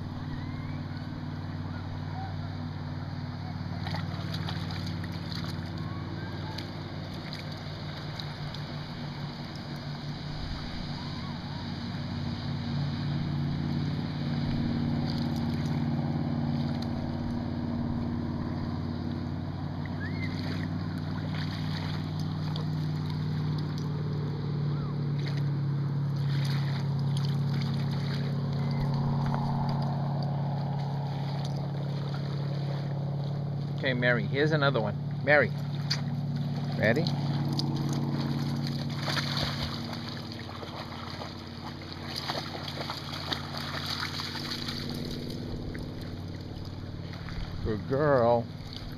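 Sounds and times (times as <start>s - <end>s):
low engine drone: 0.0s - 48.9s
dog splashing through water: 3.6s - 11.4s, 13.0s - 33.8s, 35.0s - 47.8s, 48.4s - 48.9s.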